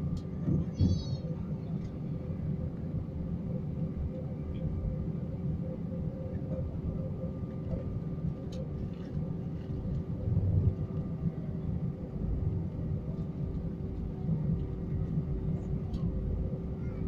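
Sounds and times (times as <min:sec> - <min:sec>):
jet engines humming: 0:00.0 - 0:17.0
wheels and airframe rumble: 0:00.0 - 0:17.0.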